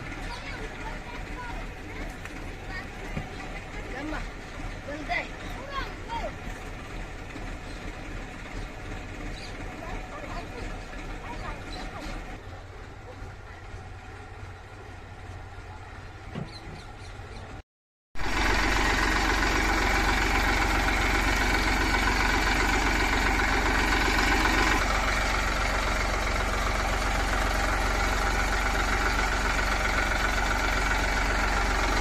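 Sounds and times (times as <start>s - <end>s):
diesel engine idling with knock: 0.0s - 17.6s, 18.2s - 32.0s.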